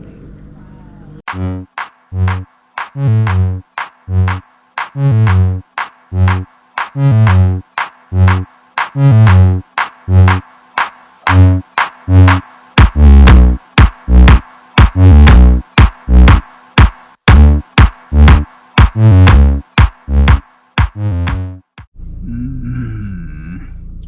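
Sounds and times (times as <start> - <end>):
electronic music with drum-machine beat: 1.3 - 21.9.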